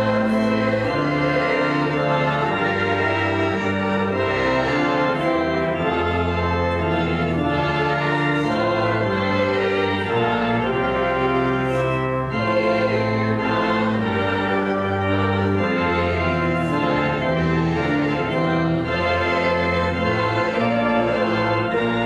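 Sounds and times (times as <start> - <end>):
pipe organ playing chords: 0.0 - 22.0.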